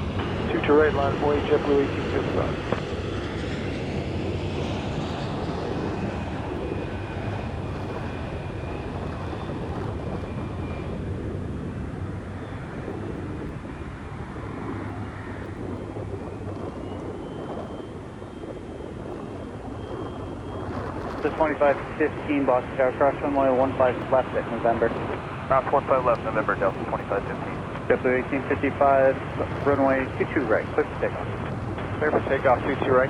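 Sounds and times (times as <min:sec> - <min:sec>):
jet engines rumbling with whine: 0:00.0 - 0:33.0.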